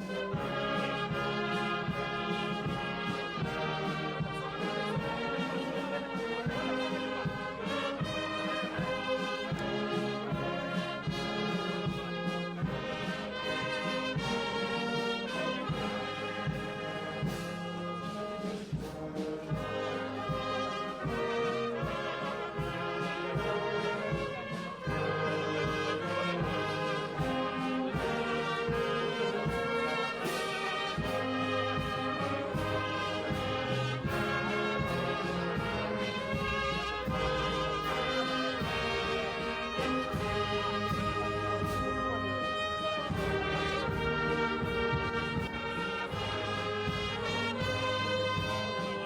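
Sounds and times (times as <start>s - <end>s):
brass band playing: 0.0s - 49.0s.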